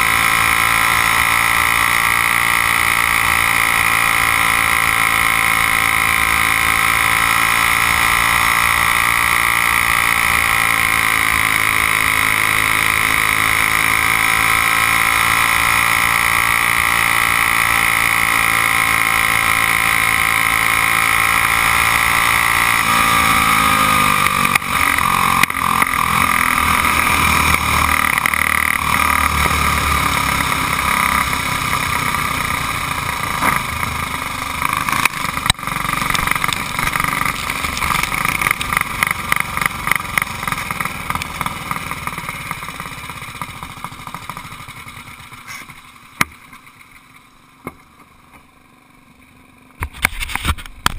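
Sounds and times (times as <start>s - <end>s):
kart engine running at speed: 0.0s - 50.9s.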